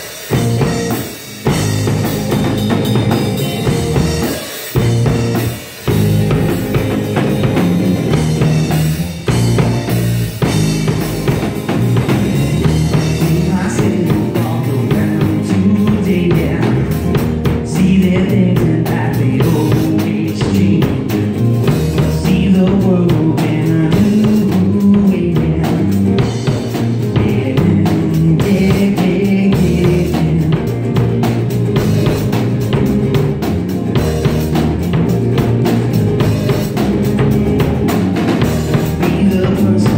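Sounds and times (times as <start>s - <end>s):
drum kit beat with rimshots: 0.0s - 39.9s
electric rock band playing: 0.0s - 39.9s.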